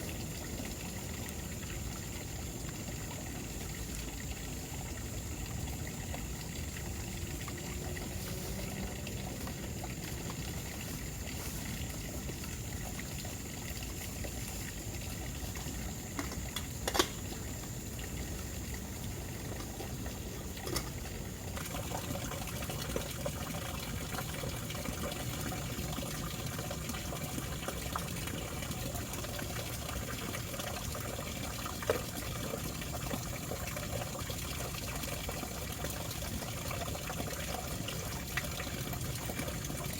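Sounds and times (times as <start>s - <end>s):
water running and splashing: 0.0s - 39.9s.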